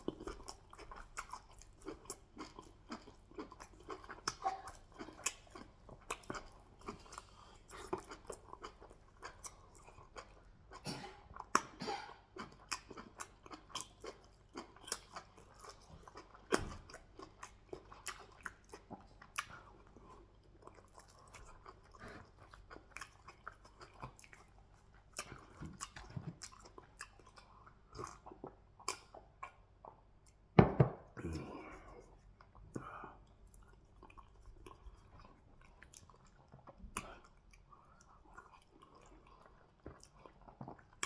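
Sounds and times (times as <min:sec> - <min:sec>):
person chewing food: 0:00.0 - 0:41.0.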